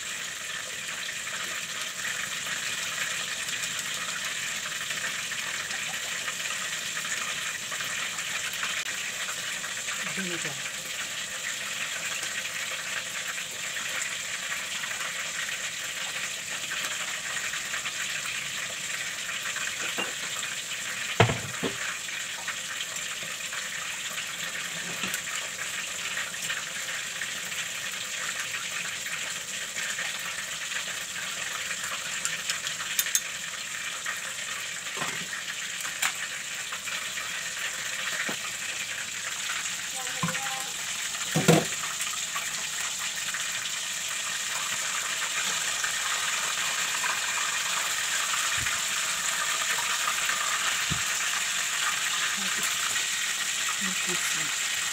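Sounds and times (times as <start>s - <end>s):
water simmering hiss: 0.0s - 54.9s.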